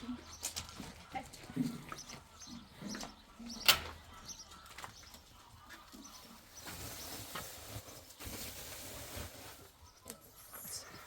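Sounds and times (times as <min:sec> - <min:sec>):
birds cooing and chirping: 0:00.0 - 0:11.0.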